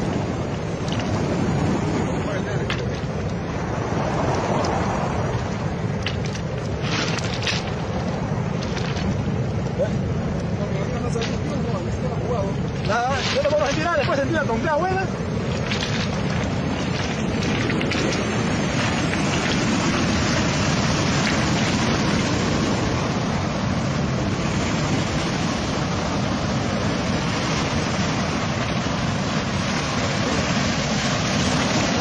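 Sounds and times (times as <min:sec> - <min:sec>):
surf rushing: 0:00.0 - 0:32.0
wind buffeting microphone: 0:00.0 - 0:32.0.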